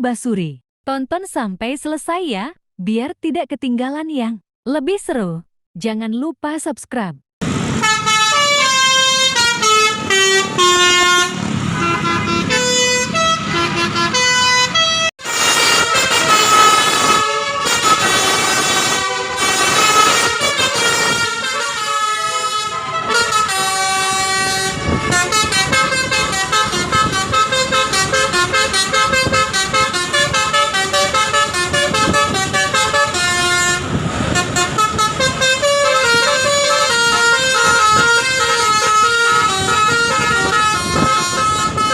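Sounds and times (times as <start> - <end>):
musical air horn melodies: 7.7 - 41.9.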